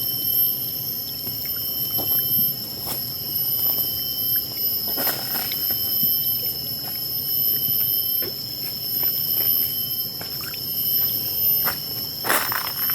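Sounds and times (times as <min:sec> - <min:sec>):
high-pitched ringing: 0:00.0 - 0:12.9.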